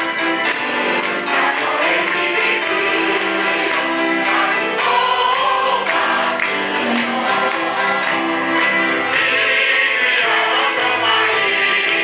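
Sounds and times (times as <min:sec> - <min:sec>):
accordion: 0:00.0 - 0:12.0
jingling percussion: 0:00.0 - 0:12.0
room singing along: 0:00.0 - 0:12.0.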